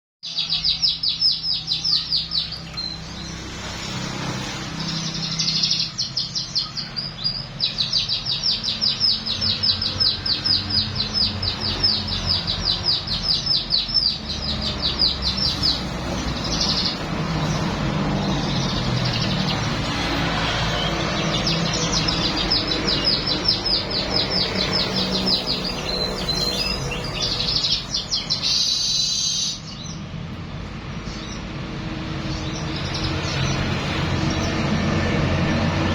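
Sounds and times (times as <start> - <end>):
bird singing rapid trills: 0.2 - 30.2, 30.8 - 35.9.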